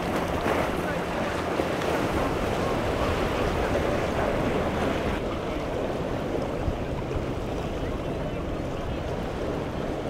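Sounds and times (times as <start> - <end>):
waves and surf washing: 0.0 - 10.0
wind buffeting microphone: 0.0 - 10.0.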